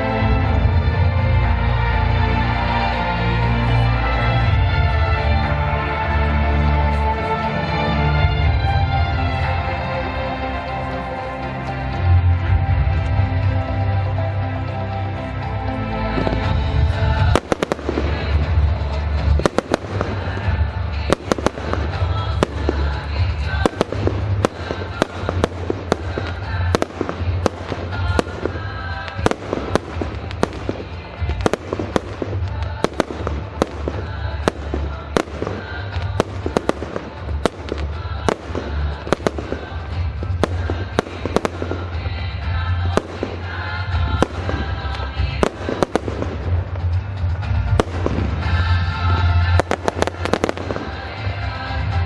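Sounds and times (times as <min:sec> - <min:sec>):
music: 0:00.0 - 0:52.0.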